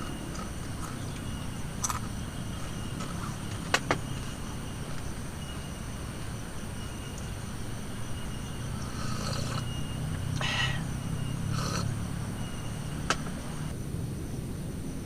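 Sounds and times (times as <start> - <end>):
insects chirring: 0.0 - 15.0
low rumble of wind: 0.0 - 15.0.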